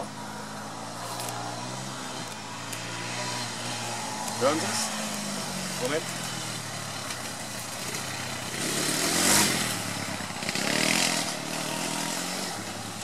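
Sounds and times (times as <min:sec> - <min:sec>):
quad bike engine revving: 0:00.0 - 0:13.0.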